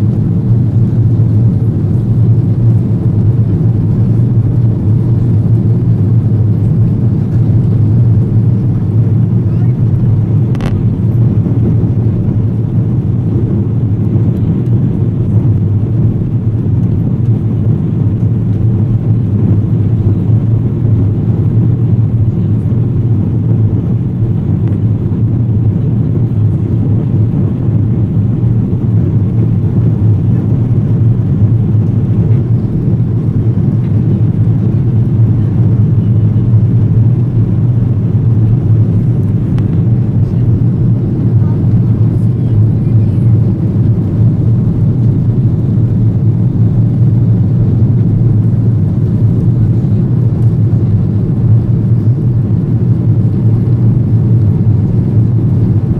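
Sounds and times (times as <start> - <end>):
jet engine cabin rumble: 0.0 - 55.9.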